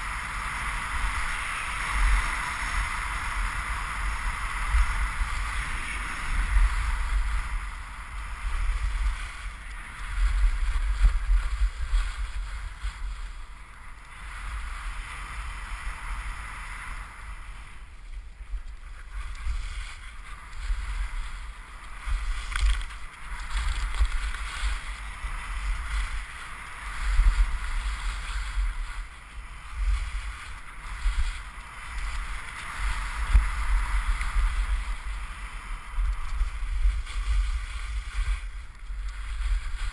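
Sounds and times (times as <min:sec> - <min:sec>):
skis sliding on snow: 0:00.0 - 0:39.9
wind buffeting microphone: 0:00.0 - 0:39.9.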